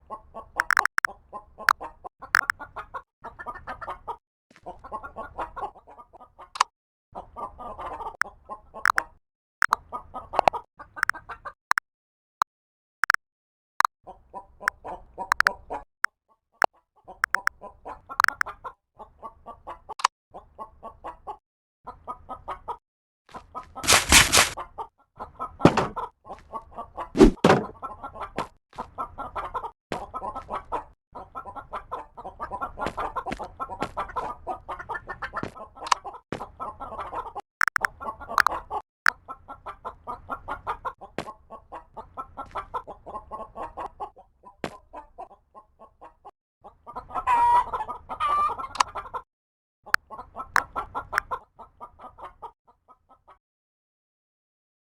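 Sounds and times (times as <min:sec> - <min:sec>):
chickens clucking: 0:00.0 - 0:11.6, 0:14.1 - 0:15.9, 0:16.6 - 0:49.3, 0:49.9 - 0:53.4.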